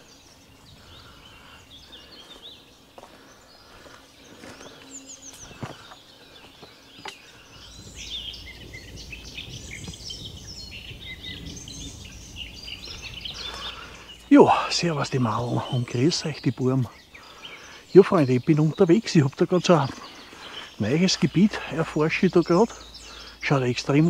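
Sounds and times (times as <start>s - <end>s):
birds singing and chirping: 0.0s - 24.0s.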